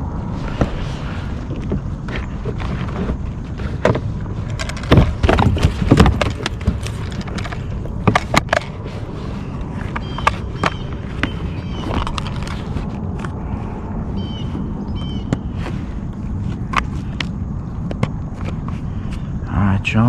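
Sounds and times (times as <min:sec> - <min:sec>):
low rumble of wind or water: 0:00.0 - 0:20.0.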